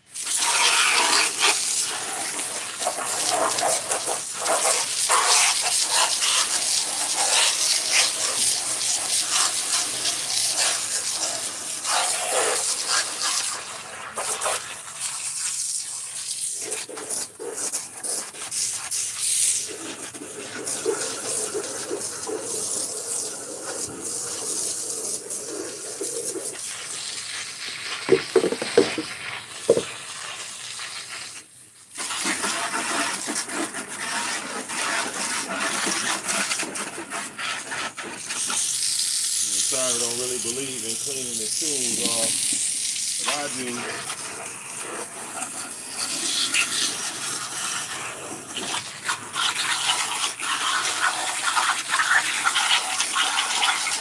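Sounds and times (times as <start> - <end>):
hose spraying water on plastic: 0.0 - 54.0.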